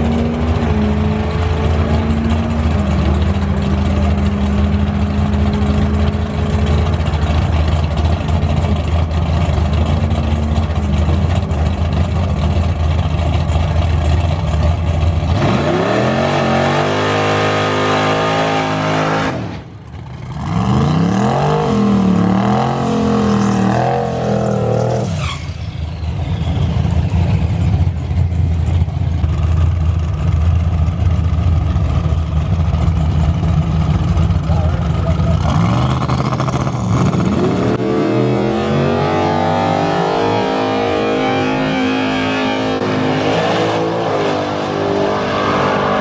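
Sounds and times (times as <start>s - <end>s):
car engine idling and revving: 0.0s - 46.0s.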